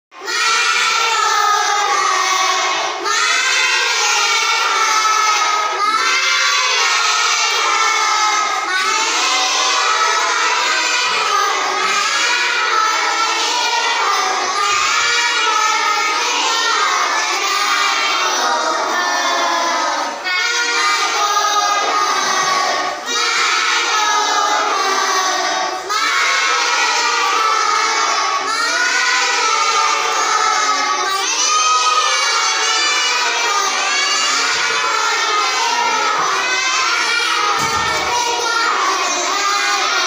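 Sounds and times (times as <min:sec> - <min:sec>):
children chanting in unison: 0:00.1 - 0:40.0.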